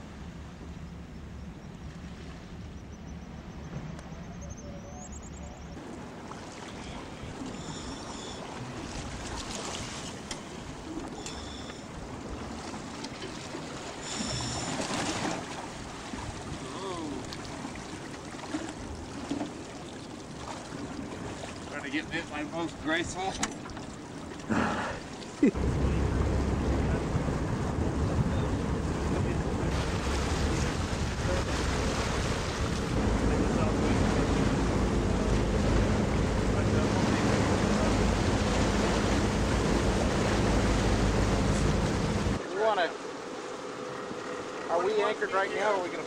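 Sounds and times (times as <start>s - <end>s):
boat motor humming: 0.0s - 46.0s
water splashing around hull: 0.0s - 46.0s.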